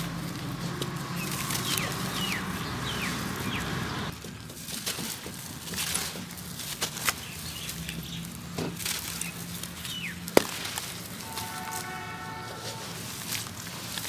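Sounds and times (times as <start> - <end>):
gritty cement lumps crunching: 0.0 - 14.0.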